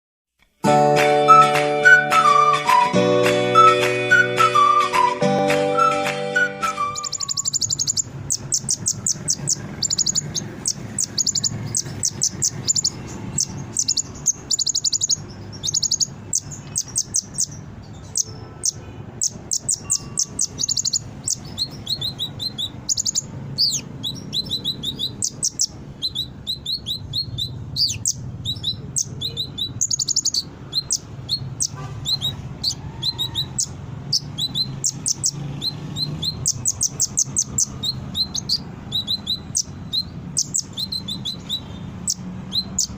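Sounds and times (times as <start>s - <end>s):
sunbird singing chips and trills: 6.7s - 42.9s.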